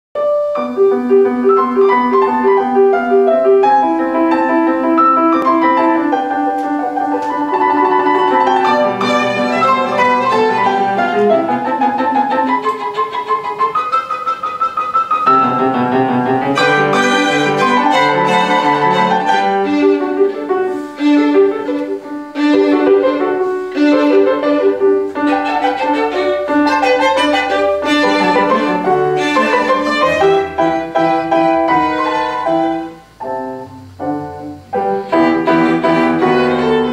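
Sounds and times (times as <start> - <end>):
grand piano: 0.2 - 36.9
violin melody: 0.3 - 36.9.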